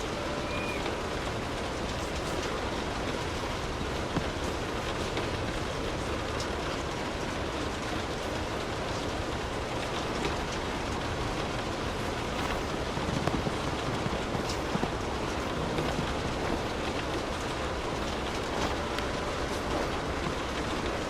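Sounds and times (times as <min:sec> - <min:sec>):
continuous low rumble: 0:00.0 - 0:21.0
steady rain falling: 0:00.0 - 0:21.0.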